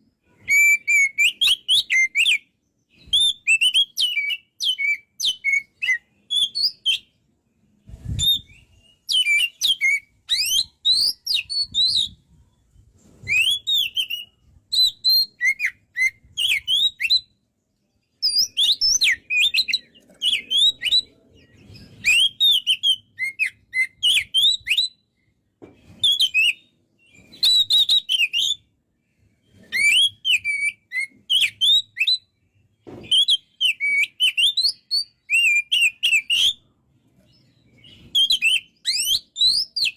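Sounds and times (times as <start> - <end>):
bird singing whistled notes: 0.0 - 7.2, 8.0 - 17.4, 18.0 - 36.7, 37.3 - 39.9.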